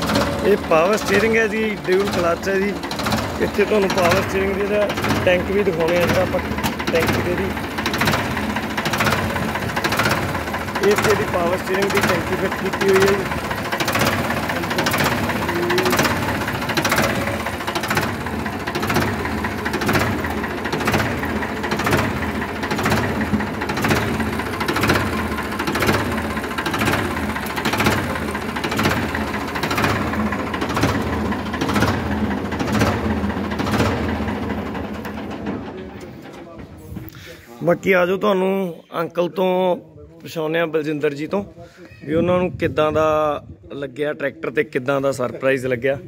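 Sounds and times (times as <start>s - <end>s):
tractor diesel engine idling: 0.0s - 39.6s.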